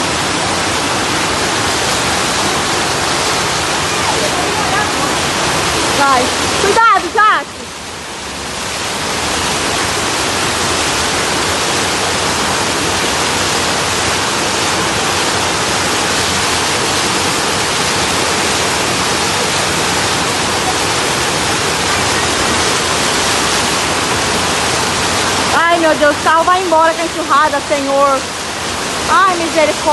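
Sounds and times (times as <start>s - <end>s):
water rushing in flooded street: 0.0s - 29.9s.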